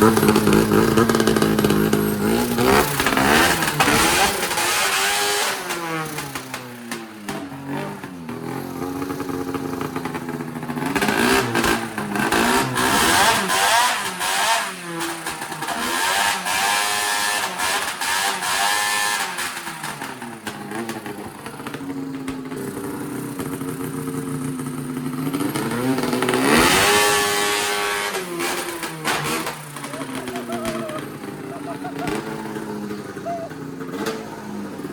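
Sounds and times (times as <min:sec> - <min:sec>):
snowmobile engine revving: 0:00.0 - 0:06.9, 0:07.6 - 0:21.8, 0:25.3 - 0:34.9.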